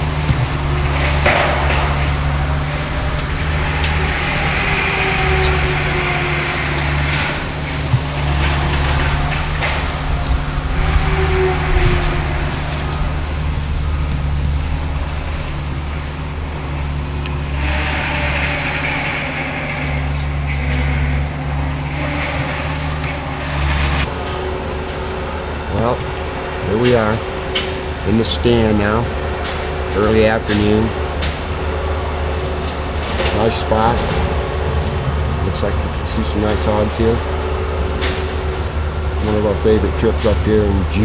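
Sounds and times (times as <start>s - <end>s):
road and wind noise: 0.0s - 41.0s
vehicle engine rumbling: 0.0s - 41.0s.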